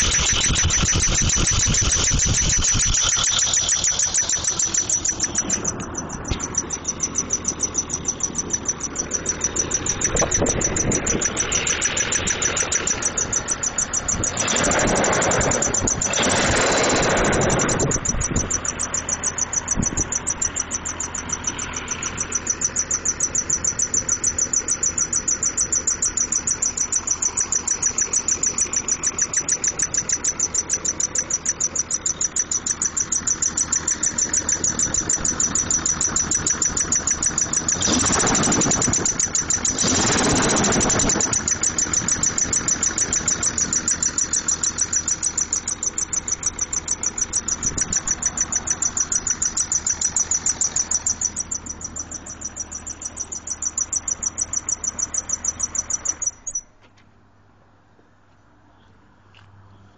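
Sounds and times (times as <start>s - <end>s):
engine running with knocking: 0.0s - 56.6s.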